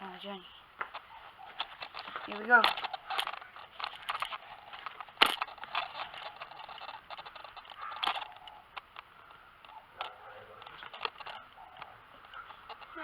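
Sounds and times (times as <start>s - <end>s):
gear clicking and rustling: 0.8s - 13.0s.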